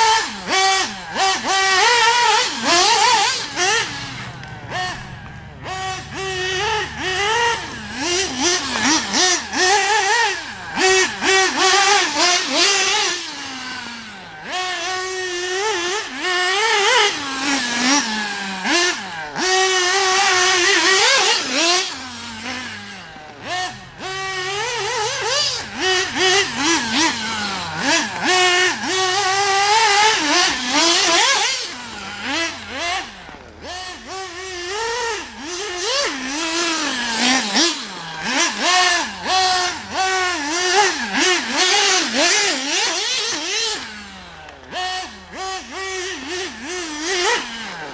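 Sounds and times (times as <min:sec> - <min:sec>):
rc car engine revving: 0:00.0 - 0:47.9.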